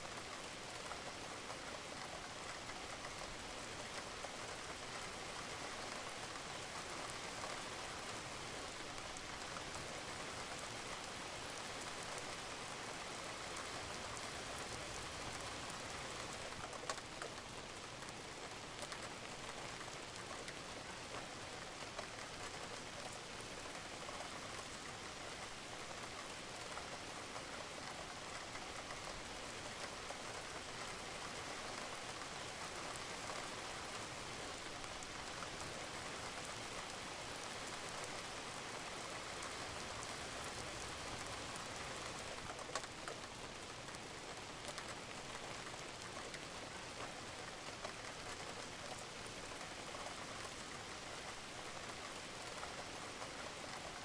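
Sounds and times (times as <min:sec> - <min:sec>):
rain falling on a roof: 0:00.0 - 0:54.0.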